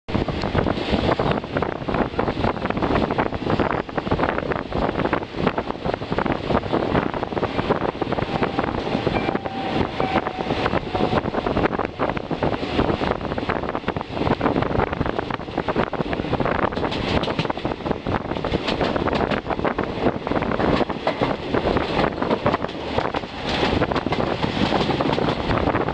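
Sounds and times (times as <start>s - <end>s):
train rumbling and rattling: 0.1s - 25.9s
wind buffeting microphone: 0.1s - 25.9s.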